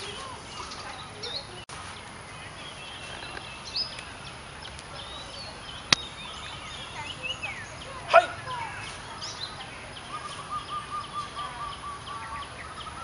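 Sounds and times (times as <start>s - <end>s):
birds chirping and whistling: 0.0s - 13.0s
outdoor background noise: 0.0s - 13.0s.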